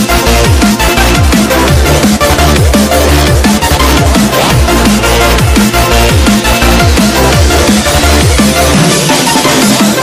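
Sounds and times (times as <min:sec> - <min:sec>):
drum and bass music: 0:00.0 - 0:10.0.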